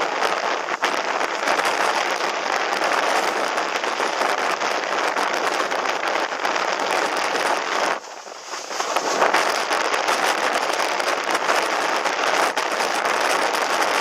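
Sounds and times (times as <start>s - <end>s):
strong wind roaring on microphone: 0.0s - 14.0s.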